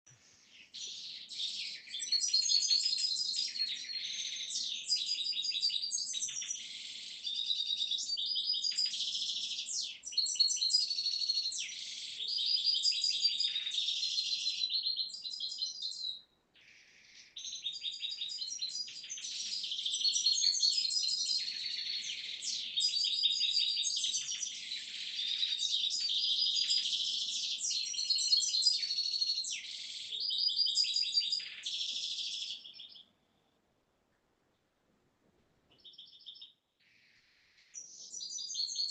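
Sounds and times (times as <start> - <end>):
small birds chirping: 0.0 - 34.8, 35.6 - 38.9.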